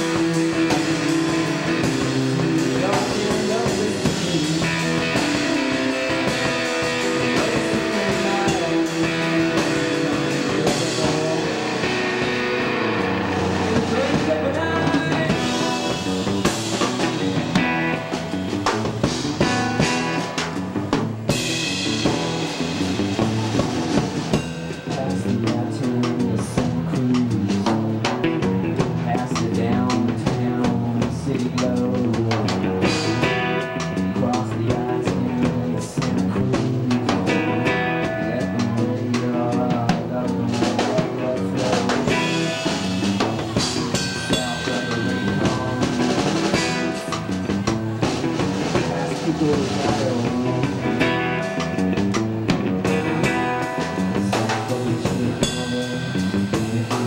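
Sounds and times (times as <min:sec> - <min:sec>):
drum kit: 0:00.0 - 0:57.0
strummed electric guitar: 0:00.0 - 0:57.0.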